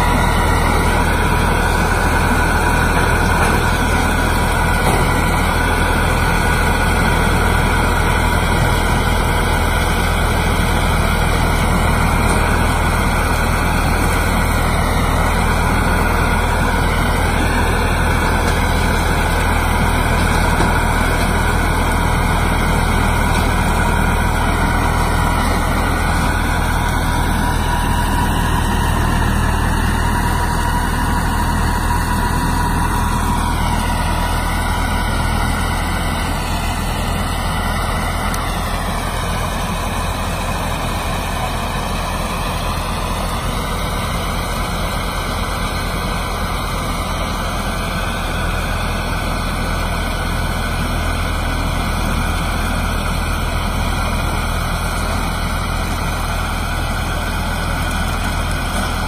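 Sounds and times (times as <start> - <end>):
harvester engine drone: 0.0 - 59.0.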